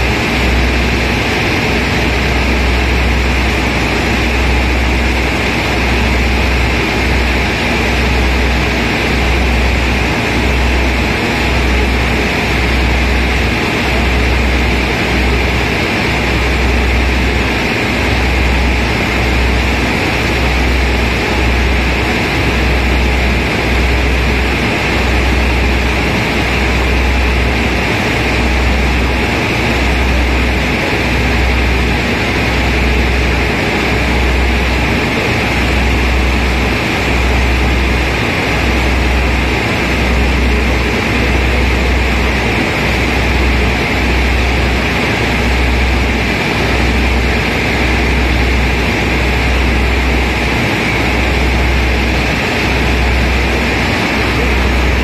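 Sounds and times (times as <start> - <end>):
ship engine and wake roar: 0.0 - 55.0.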